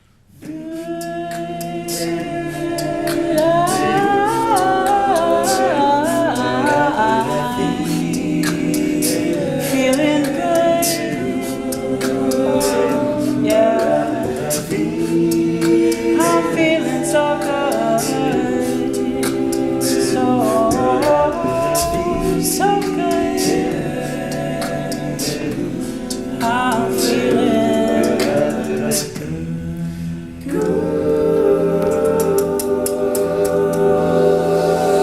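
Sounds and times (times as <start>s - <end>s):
vocal group singing harmony: 0.0s - 35.0s
vocal percussion hits: 0.4s - 35.0s.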